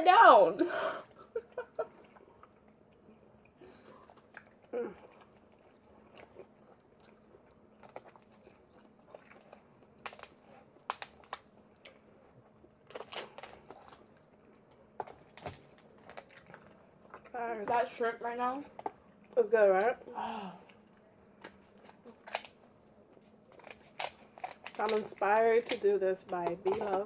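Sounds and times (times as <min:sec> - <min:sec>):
chewing and crunching: 0:01.2 - 0:27.0.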